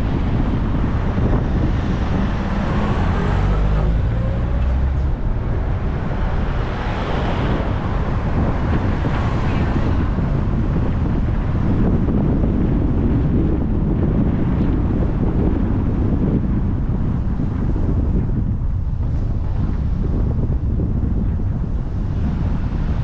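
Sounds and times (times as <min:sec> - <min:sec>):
vehicle engine hum: 0:00.0 - 0:23.0
wind buffeting microphone: 0:00.0 - 0:23.0.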